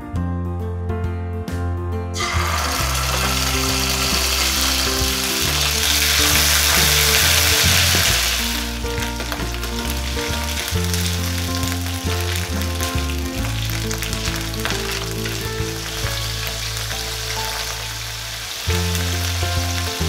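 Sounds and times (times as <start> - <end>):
paste sizzling in hot oil: 2.2 - 20.0.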